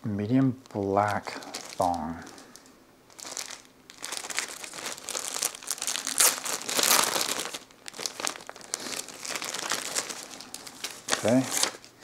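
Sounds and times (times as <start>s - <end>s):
plastic bag crinkling: 0.6s - 11.9s.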